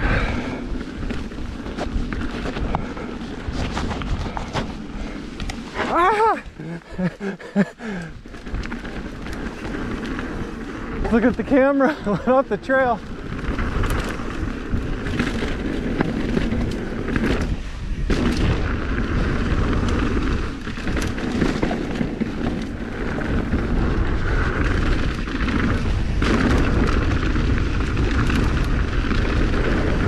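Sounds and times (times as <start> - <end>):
bike rattling over bumps: 0.0 - 30.0
wind buffeting microphone: 0.0 - 30.0.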